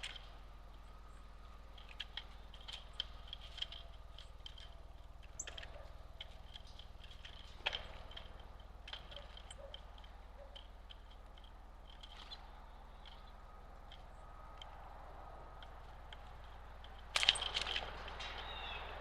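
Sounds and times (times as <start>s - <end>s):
sharp clicks: 0.0s - 19.0s
small birds chirping: 0.0s - 19.0s
steady low hum: 0.0s - 19.0s.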